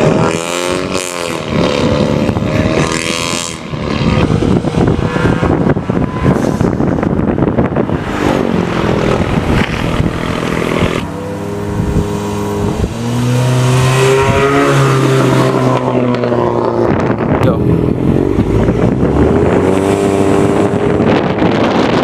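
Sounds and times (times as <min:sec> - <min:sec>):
car exhaust revving: 0:00.0 - 0:22.0.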